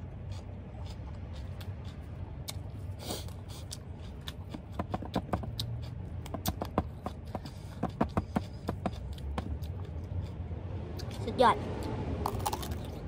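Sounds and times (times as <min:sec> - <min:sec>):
close-up chewing: 0:00.0 - 0:11.2, 0:11.8 - 0:13.0.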